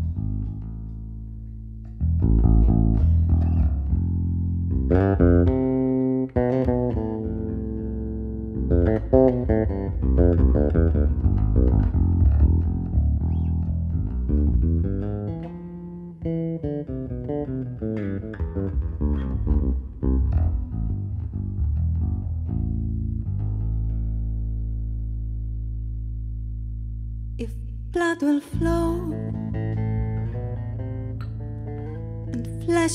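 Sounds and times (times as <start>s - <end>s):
electric bass solo: 0.0s - 32.9s.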